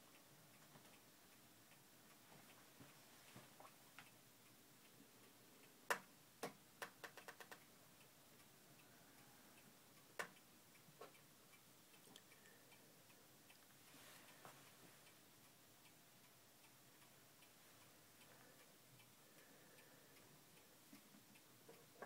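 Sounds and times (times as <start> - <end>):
faint clock ticking: 0.0 - 22.0.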